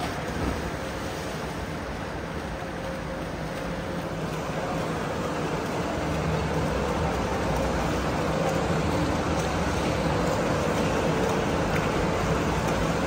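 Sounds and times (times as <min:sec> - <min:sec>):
steady low hum: 0:00.0 - 0:13.0
swimmers splashing water: 0:00.0 - 0:13.0.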